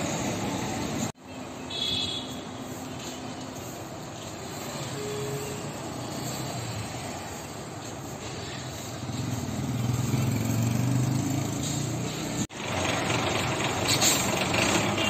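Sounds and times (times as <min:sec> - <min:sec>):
buses idling: 0:00.0 - 0:15.0
traffic noise: 0:00.0 - 0:15.0.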